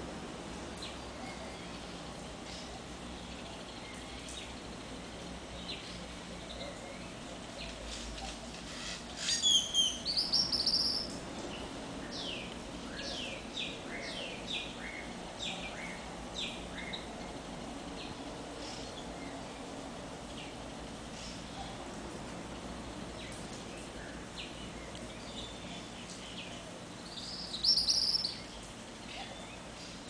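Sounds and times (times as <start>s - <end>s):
faint steady hiss: 0.0s - 30.0s
wild birds calling: 0.8s - 22.0s, 23.2s - 30.0s.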